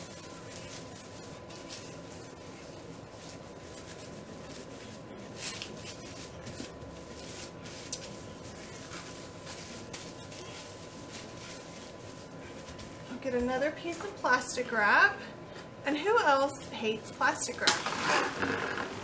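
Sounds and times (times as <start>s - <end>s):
plastic wrap crinkling: 0.0s - 14.1s, 17.4s - 19.0s
faint high hum: 0.0s - 19.0s.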